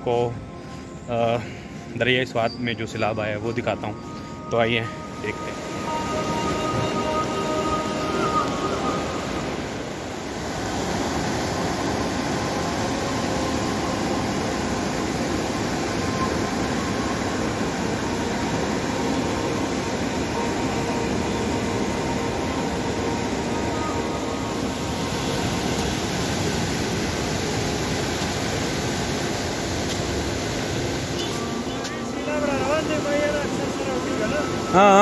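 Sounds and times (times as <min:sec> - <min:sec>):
floodwater rushing: 0:03.7 - 0:35.0.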